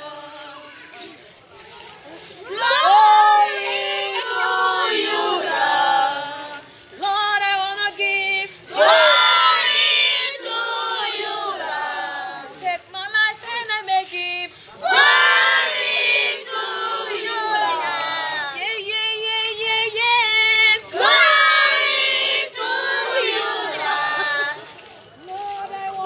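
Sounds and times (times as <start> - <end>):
children and women singing in chorus: 0.0 - 1.2, 2.4 - 14.2, 14.8 - 24.7.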